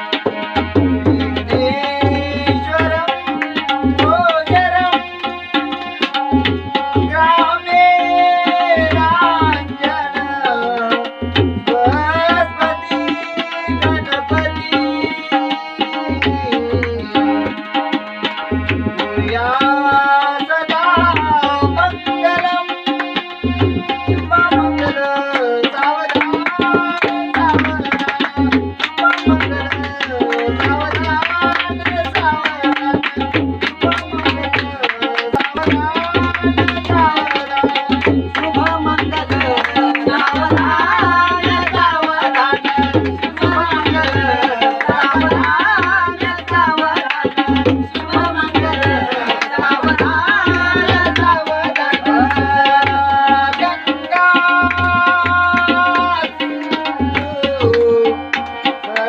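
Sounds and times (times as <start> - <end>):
person singing: 0.0 - 17.8, 18.7 - 59.0
harmonium chords: 0.0 - 59.0
tabla drumming: 0.0 - 59.0.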